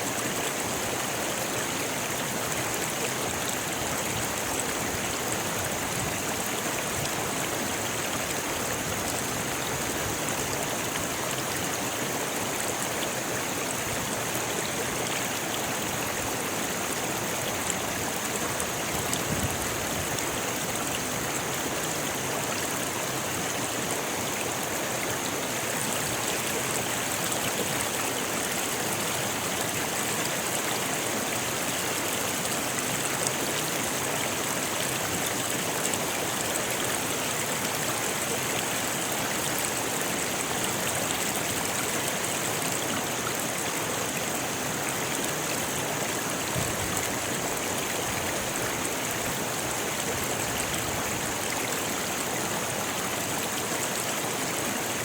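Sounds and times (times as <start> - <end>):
river water splashing over stones: 0.0 - 55.0.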